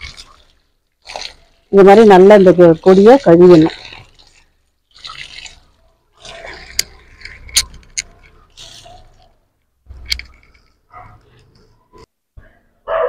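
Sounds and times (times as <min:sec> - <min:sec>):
water splashing from garden tap: 0:00.0 - 0:10.8.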